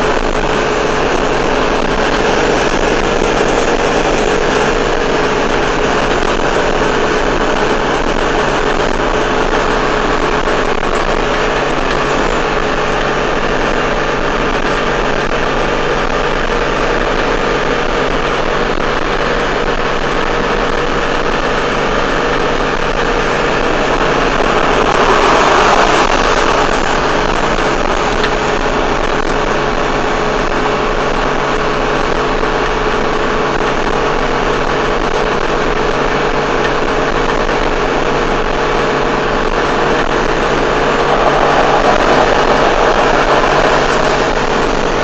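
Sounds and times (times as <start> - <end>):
engine drone: 0.0 - 45.0
road and wind noise: 0.0 - 45.0.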